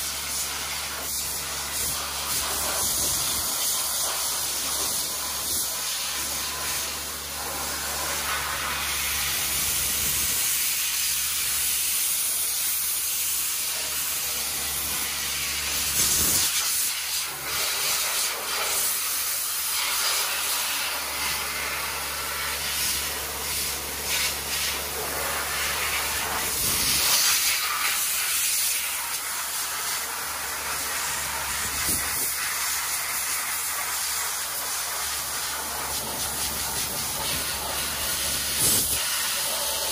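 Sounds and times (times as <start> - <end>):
compressed air blasting hiss: 0.0 - 39.9.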